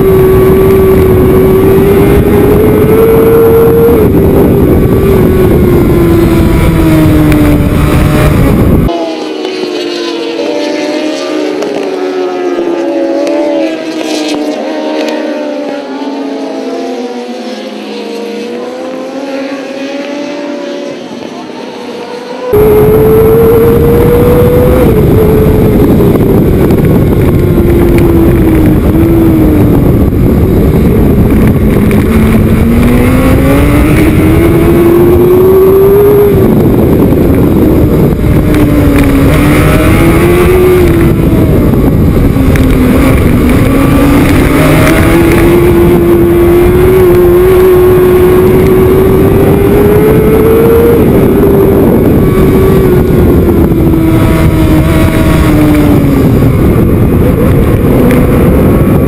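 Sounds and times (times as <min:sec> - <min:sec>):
racing motorcycle engine: 0:00.0 - 0:59.0.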